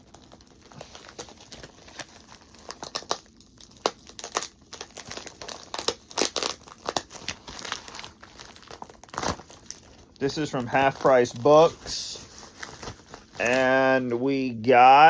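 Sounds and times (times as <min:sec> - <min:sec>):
package being torn open: 0:00.0 - 0:13.7
packaging crumpling and rustling: 0:00.0 - 0:14.2.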